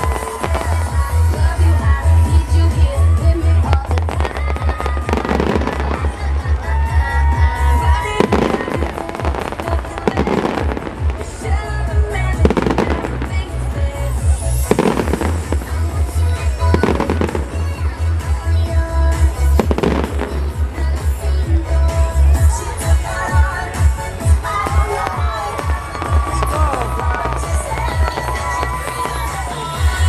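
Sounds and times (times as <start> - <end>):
fireworks bursting and crackling: 0.0 - 30.0
loud music with bass beat: 0.0 - 30.0.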